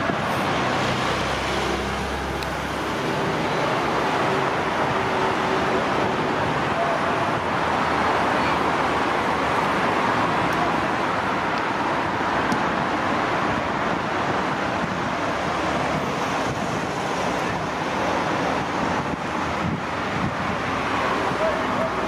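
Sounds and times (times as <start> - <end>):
road traffic rushing: 0.0 - 22.0.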